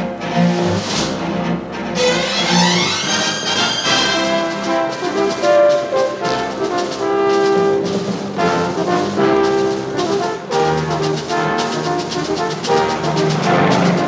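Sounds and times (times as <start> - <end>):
orchestral brass chords: 0.0 - 14.0.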